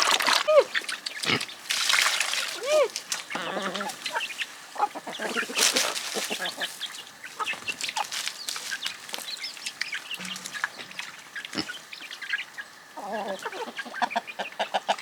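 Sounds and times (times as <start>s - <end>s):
chickens clucking: 2.5s - 15.0s.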